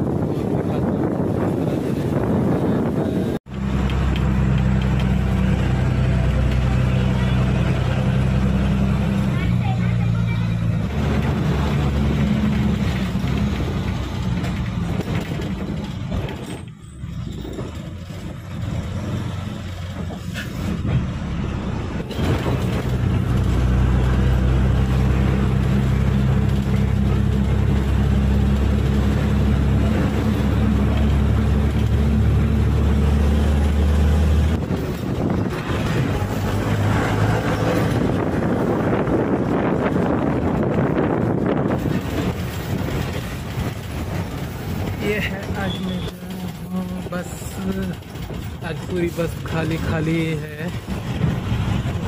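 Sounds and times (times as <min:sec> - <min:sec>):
bus engine running: 0:00.0 - 0:52.0.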